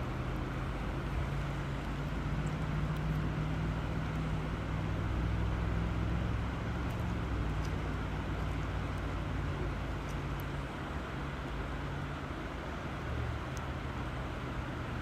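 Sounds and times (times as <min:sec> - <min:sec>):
low steady hum: 0:00.0 - 0:15.0
river water rushing: 0:00.0 - 0:15.0.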